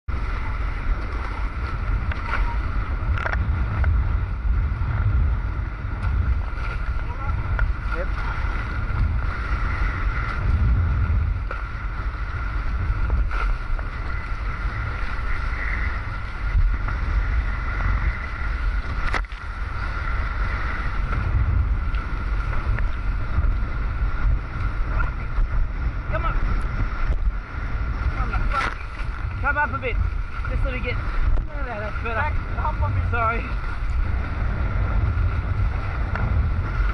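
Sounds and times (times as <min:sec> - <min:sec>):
water rushing along hull: 0:00.0 - 0:36.9
wind buffeting microphone: 0:00.0 - 0:36.9.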